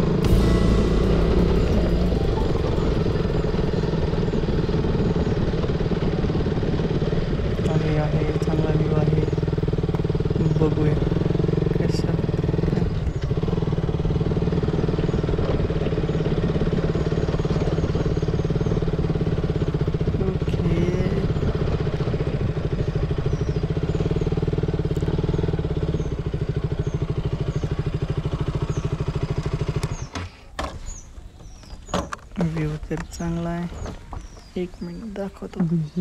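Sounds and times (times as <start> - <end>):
motorcycle engine running: 0.0 - 30.2, 30.8 - 36.0.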